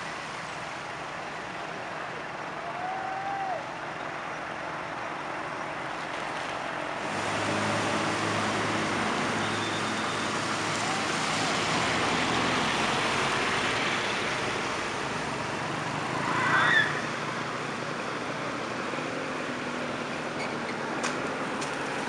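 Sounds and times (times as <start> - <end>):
traffic on wet road: 0.0 - 22.0.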